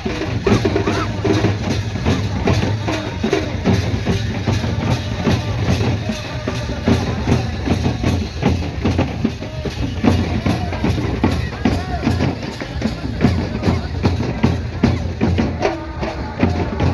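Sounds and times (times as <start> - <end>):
drum-driven music: 0.0 - 16.9.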